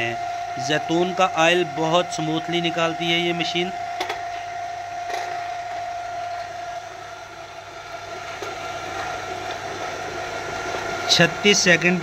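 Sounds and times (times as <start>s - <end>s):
mechanical hum: 0.0s - 12.0s
oil press machine whine: 0.0s - 12.0s.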